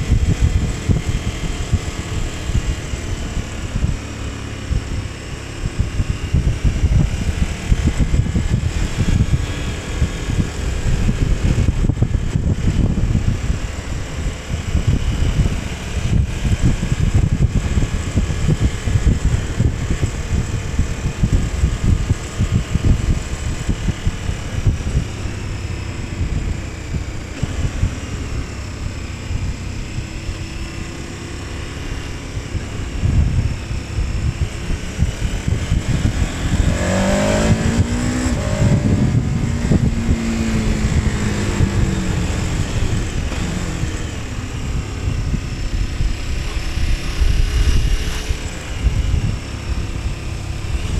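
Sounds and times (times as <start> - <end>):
motorcycle engine running: 0.0 - 50.9
wind rush over microphone: 0.0 - 50.9.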